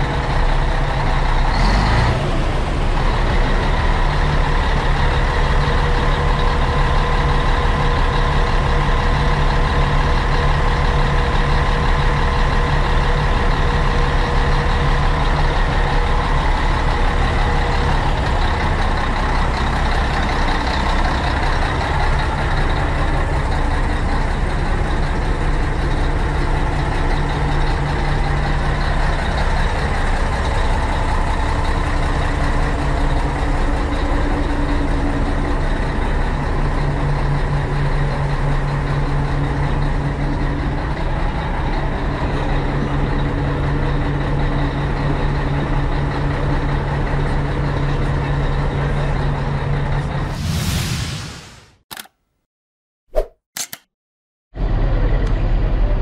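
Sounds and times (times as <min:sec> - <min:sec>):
diesel bus engine idling: 0:00.0 - 0:50.3, 0:54.6 - 0:56.0.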